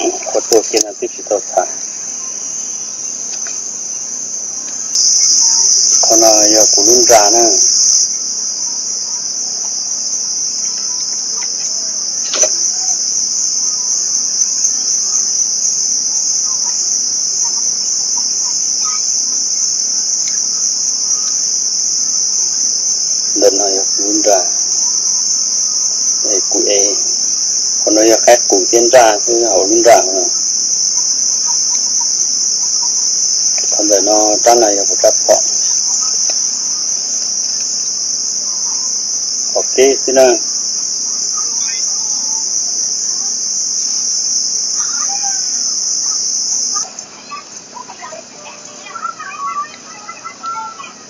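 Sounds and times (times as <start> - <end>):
insects buzzing in chorus: 0.0 - 51.0
short pitched calls: 0.0 - 51.0.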